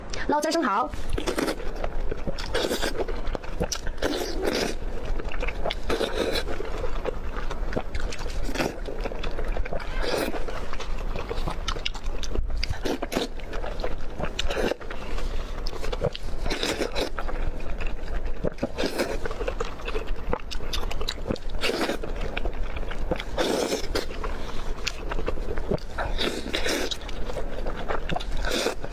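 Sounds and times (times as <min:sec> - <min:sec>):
person chewing oysters: 0:01.0 - 0:28.9.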